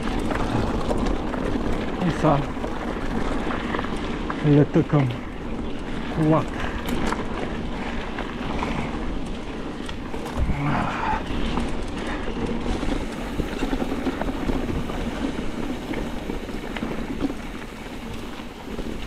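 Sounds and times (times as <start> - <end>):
bike clicks and rattles: 0.0 - 19.0
bike tyre noise: 0.0 - 19.0.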